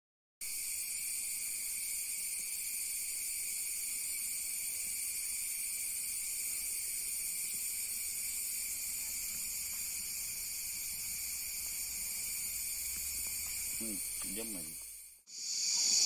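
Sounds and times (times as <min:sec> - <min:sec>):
insect chorus drone: 0:00.4 - 0:16.0.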